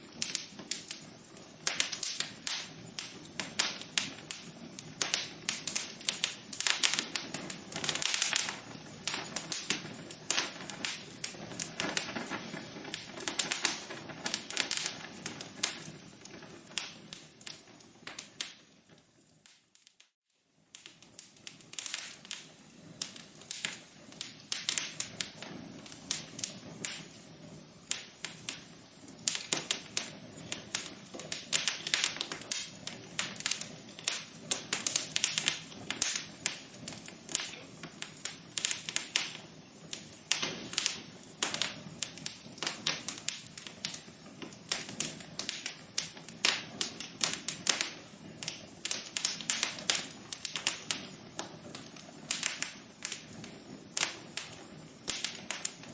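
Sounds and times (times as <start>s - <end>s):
soft hiss: 0.0s - 55.9s
wood fire crackling and popping: 0.0s - 55.9s.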